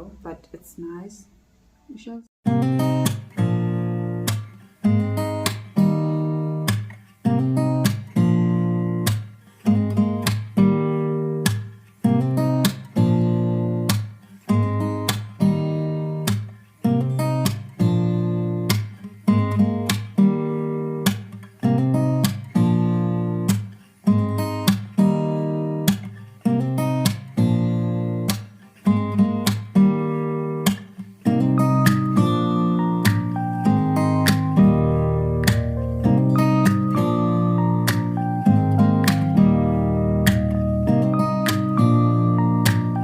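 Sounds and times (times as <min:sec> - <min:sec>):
acoustic guitar strumming: 0:02.5 - 0:43.0.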